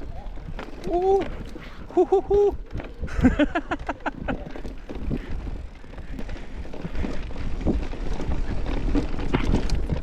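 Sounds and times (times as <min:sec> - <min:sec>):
bike clicks and rattles: 0:00.0 - 0:10.0
bike tyre noise on dirt: 0:00.0 - 0:10.0
wind rumble on microphone: 0:00.0 - 0:10.0.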